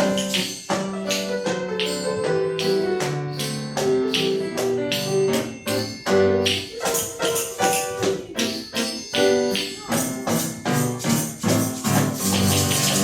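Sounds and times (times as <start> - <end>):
pitched accompaniment: 0.0 - 13.0
tambourines and hand percussion: 0.0 - 13.0.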